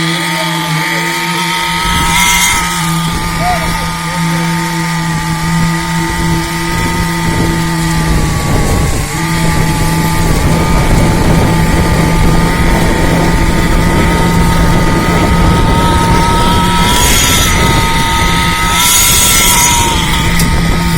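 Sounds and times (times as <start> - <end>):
constant high whine: 0.0 - 20.9
machinery engine low hum: 0.0 - 20.9.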